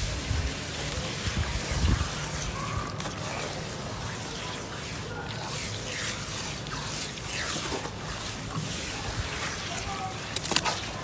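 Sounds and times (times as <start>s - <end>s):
hands squishing wet cement mud: 0.0s - 11.0s.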